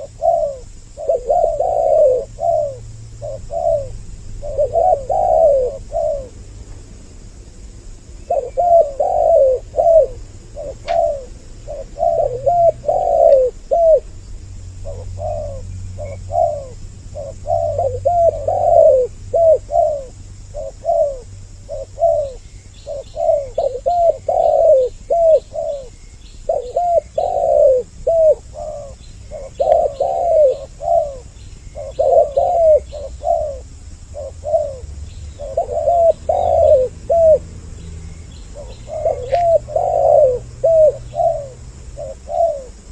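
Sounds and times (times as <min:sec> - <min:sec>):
doves cooing: 0:00.0 - 0:06.5, 0:07.9 - 0:37.7, 0:38.4 - 0:42.9
small birds chirping: 0:00.0 - 0:42.9.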